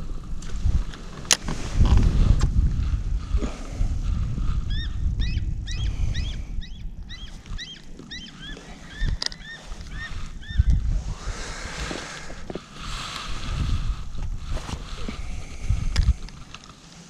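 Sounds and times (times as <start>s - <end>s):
low rumble: 0.0s - 16.6s.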